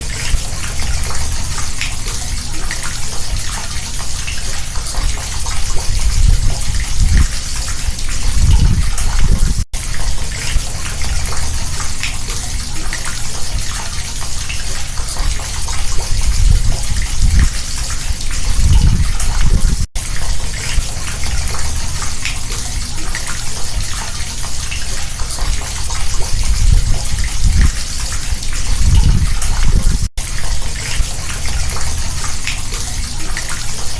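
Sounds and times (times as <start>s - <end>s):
water rushing through sewer grate: 0.0s - 33.9s.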